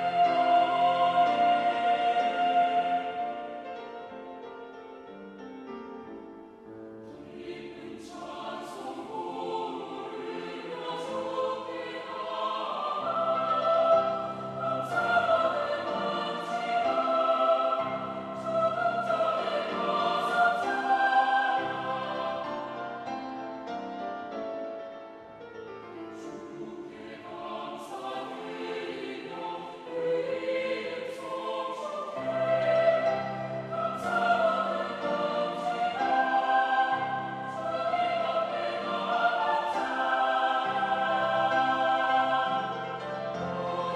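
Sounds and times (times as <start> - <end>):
mixed choir singing an anthem: 0.0 - 4.7, 6.4 - 23.6, 26.0 - 43.9.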